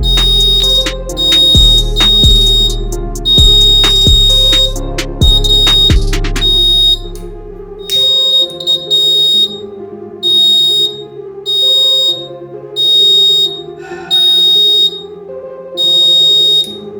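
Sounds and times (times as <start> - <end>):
high-pitched alarm beeps: 0.0 - 7.1, 7.8 - 15.1, 15.8 - 16.9
background music: 0.0 - 16.9.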